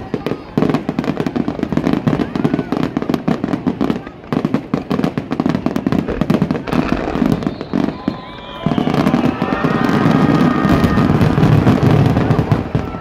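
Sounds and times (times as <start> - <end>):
fireworks bursting and crackling: 0.0 - 13.0
fireworks whistling: 0.0 - 13.0.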